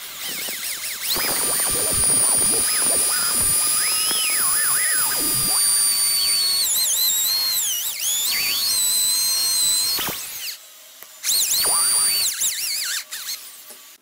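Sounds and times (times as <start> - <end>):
electric drill boring into wood: 0.0 - 14.0.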